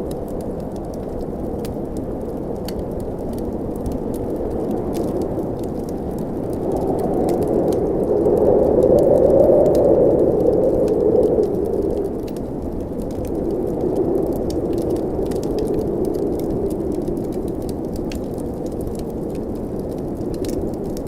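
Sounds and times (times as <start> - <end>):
wood fire crackling: 0.0 - 21.0
blizzard wind rushing: 3.2 - 21.0.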